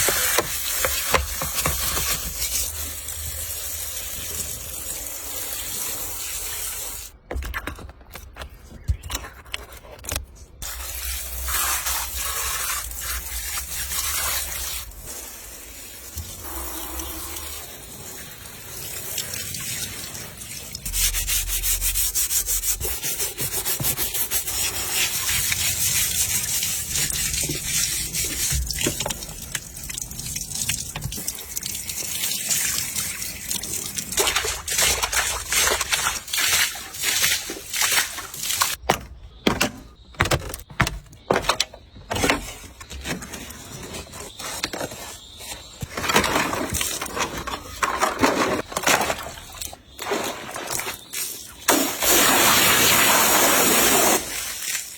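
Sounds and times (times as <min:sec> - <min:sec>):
scrubbing car with water: 0:00.0 - 0:07.2, 0:10.6 - 0:54.9.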